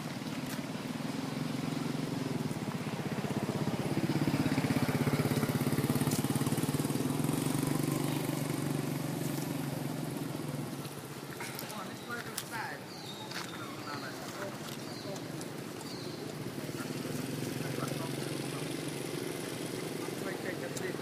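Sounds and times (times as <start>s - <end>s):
vehicle engine passing by: 0.0s - 12.2s, 12.9s - 21.0s.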